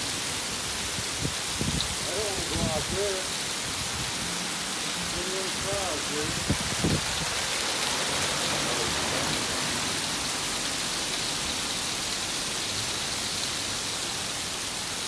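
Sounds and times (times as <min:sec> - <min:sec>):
hail pattering: 0:01.2 - 0:14.7.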